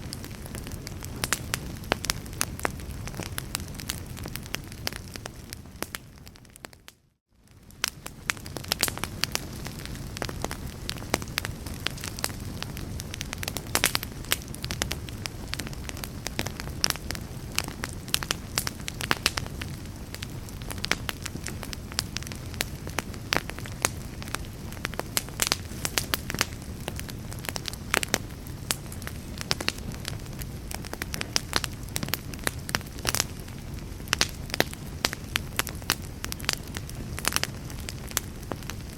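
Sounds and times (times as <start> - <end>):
log fire crackling and popping: 0.0 - 38.9.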